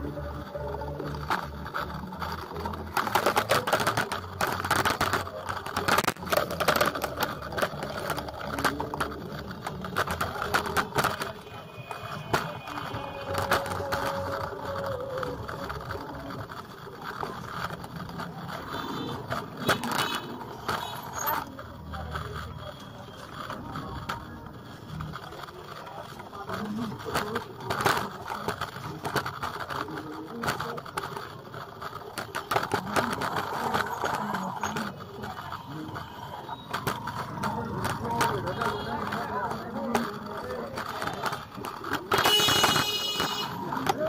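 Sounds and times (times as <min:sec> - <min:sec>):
bicycle rattling over dirt: 0:00.0 - 0:44.0
voices of people: 0:00.0 - 0:44.0.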